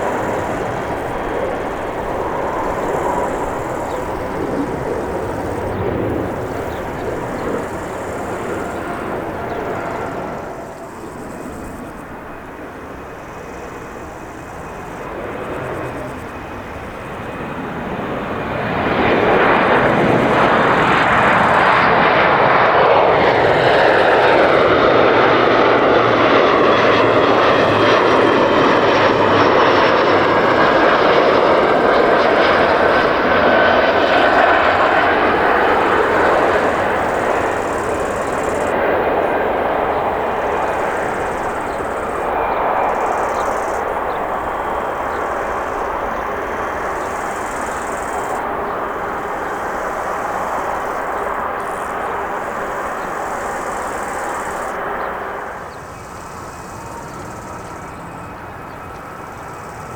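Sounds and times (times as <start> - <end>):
jet aircraft engines roaring: 0.0 - 59.9.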